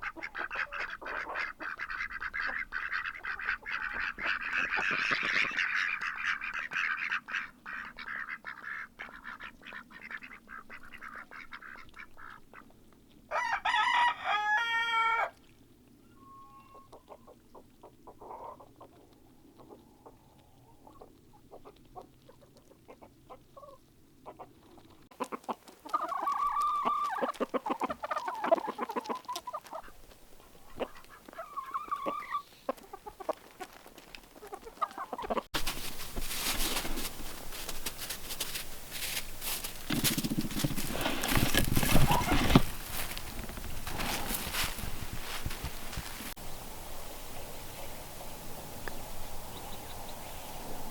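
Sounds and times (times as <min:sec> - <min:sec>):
chickens clucking: 0:00.0 - 0:12.7, 0:16.2 - 0:46.4.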